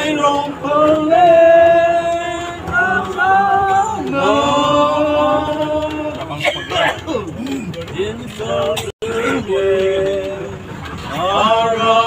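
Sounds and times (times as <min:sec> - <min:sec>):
group singing unaccompanied: 0:00.0 - 0:06.5, 0:07.8 - 0:12.0.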